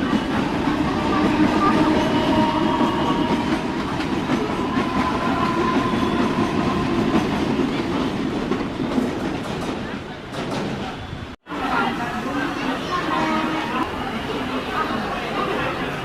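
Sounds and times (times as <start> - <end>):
electric train rumbling on rails: 0.0 - 16.0.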